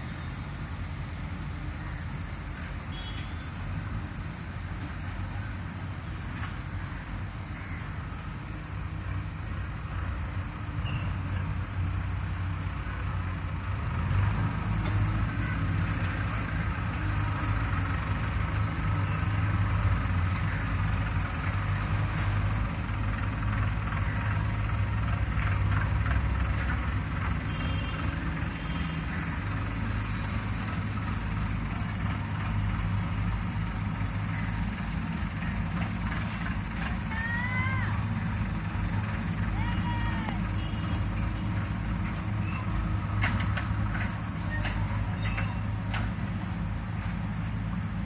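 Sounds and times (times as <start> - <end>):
diesel engine humming: 0.0 - 48.0.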